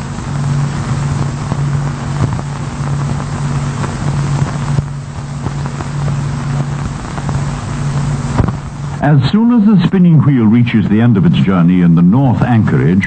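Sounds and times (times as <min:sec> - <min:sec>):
even hiss: 0:00.0 - 0:13.0
low mechanical drone: 0:00.0 - 0:13.0.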